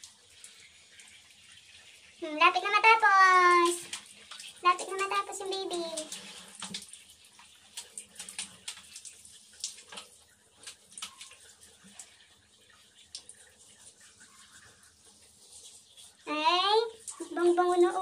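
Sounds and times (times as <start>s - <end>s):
water splashing on tiled floor: 2.6s - 18.0s.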